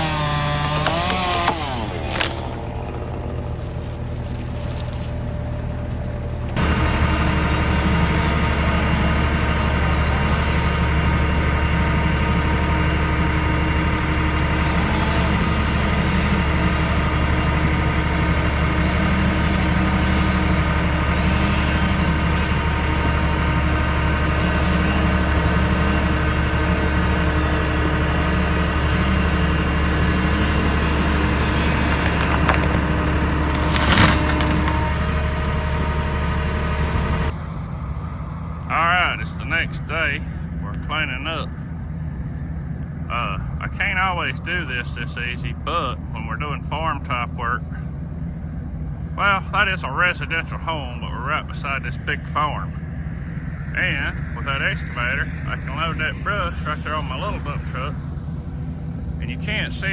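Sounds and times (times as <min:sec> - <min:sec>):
engine running with low hum: 0:00.0 - 0:59.9.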